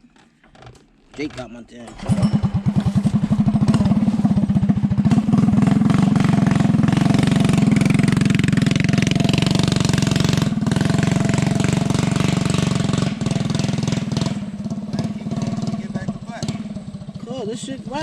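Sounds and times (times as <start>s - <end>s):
small engine pulsing exhaust: 1.9s - 18.0s.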